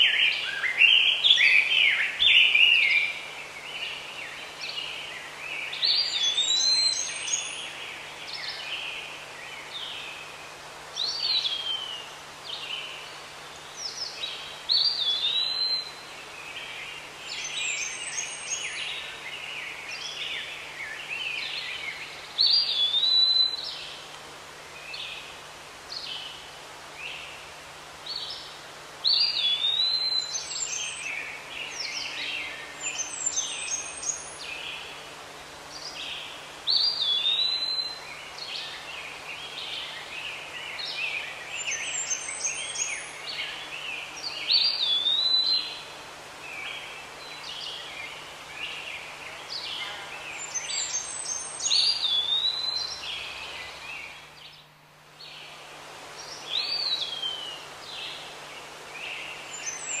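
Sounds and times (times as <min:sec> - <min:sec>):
birds singing and chirping: 0:00.0 - 0:10.4, 0:11.0 - 0:24.0, 0:28.1 - 0:35.0, 0:35.8 - 0:55.6, 0:56.2 - 1:00.0.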